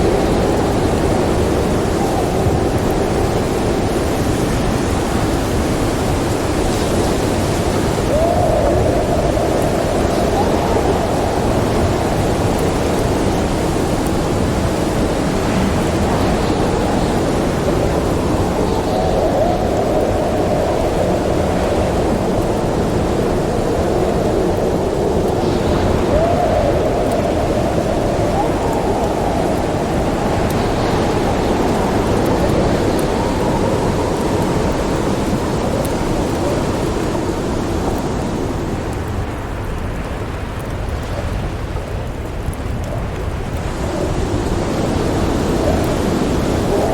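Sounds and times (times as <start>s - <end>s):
storm wind rushing: 0.0s - 46.9s
whistling wind howl: 0.0s - 46.9s
wood fire crackling: 0.0s - 46.9s.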